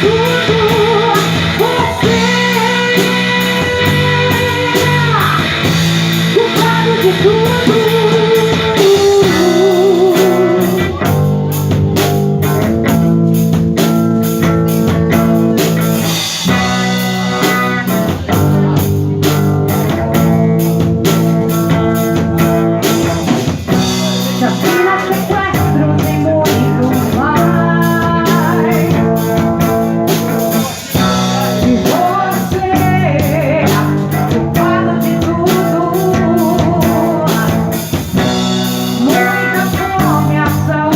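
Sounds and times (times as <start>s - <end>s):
wavering lead voice or guitar: 0.0s - 13.2s, 14.4s - 40.9s
bass guitar: 0.0s - 40.9s
distorted electric guitar: 0.0s - 40.9s
drum kit: 0.0s - 40.9s.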